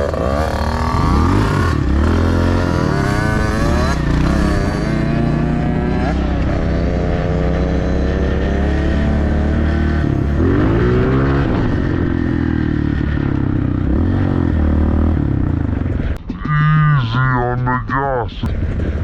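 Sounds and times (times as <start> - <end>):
dirt bike engine revving: 0.0 - 17.6.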